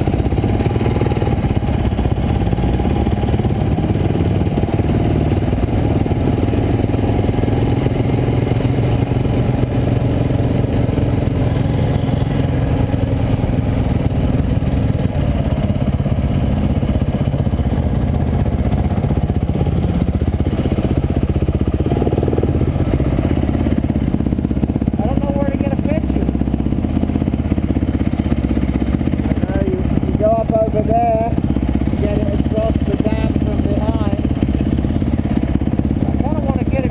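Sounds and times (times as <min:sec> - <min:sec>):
dirt bike engine running: 0:00.0 - 0:36.9.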